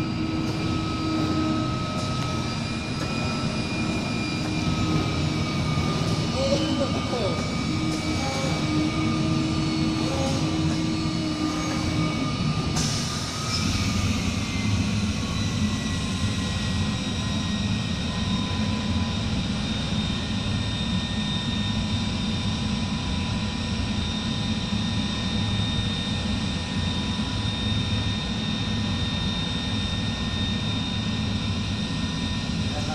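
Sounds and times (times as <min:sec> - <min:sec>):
high steady whine: 0:00.0 - 0:32.9
machine low drone: 0:00.0 - 0:32.9.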